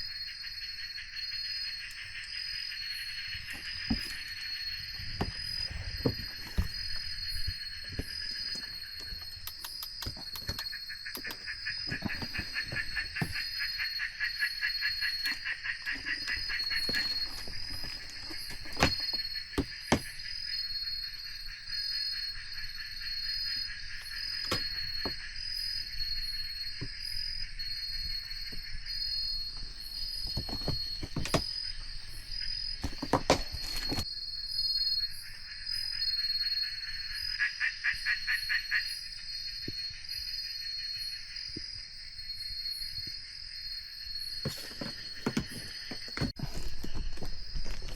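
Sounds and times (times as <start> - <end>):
high insect trill: 0.0 - 47.9.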